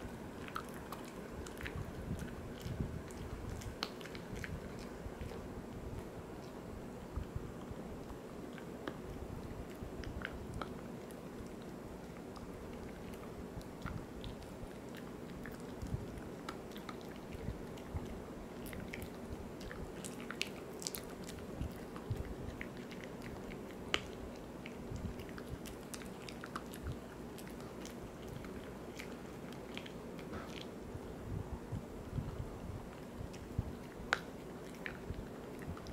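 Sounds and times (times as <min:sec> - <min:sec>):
dog chewing crunchy treat: 0:00.3 - 0:31.0, 0:32.1 - 0:35.9.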